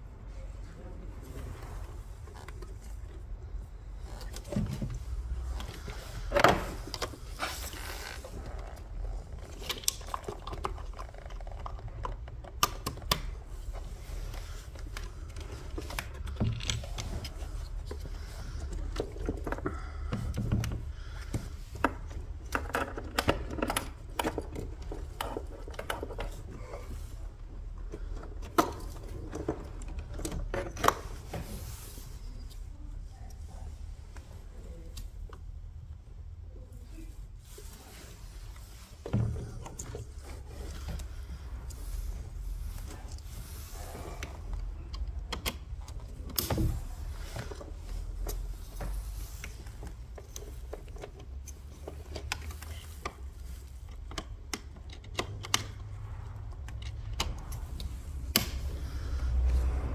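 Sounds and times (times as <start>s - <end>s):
wires and plastic connectors clicking: 4.0s - 31.5s, 38.5s - 59.9s.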